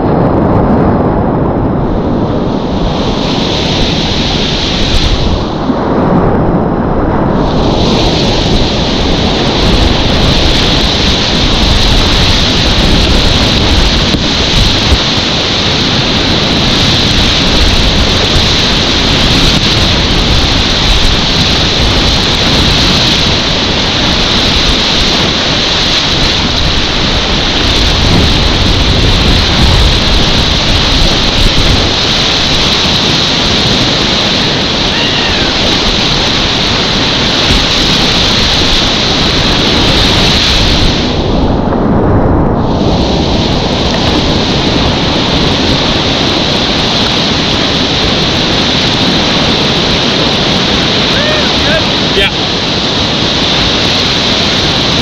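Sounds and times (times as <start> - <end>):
whitewater rapids rushing: 2.8 - 5.7, 7.4 - 41.2, 43.0 - 55.0.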